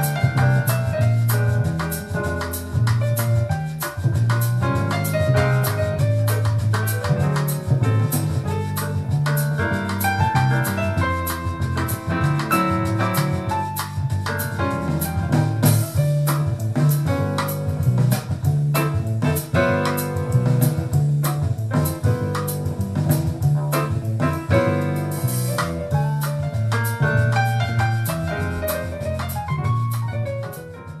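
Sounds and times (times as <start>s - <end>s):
bass notes: 0.0s - 31.0s
drums and cymbals: 0.0s - 31.0s
piano: 0.0s - 31.0s.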